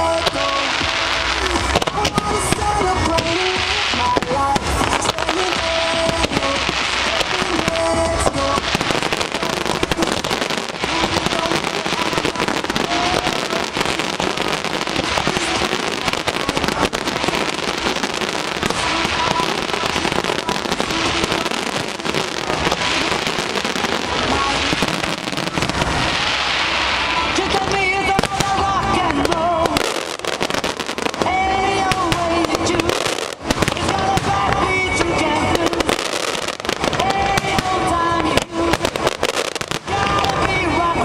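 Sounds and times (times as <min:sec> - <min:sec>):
fireworks bursting and crackling: 0:00.0 - 0:41.0
music: 0:00.0 - 0:41.0.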